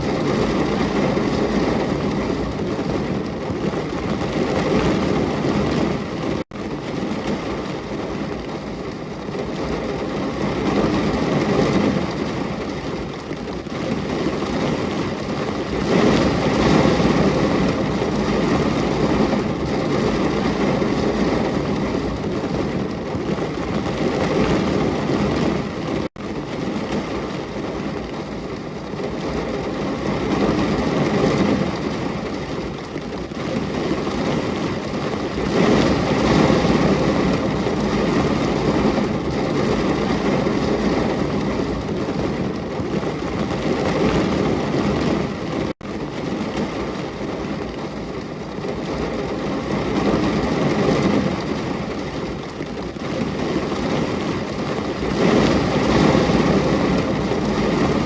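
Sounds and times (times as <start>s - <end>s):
heavy rain with low rumble: 0.0s - 58.0s.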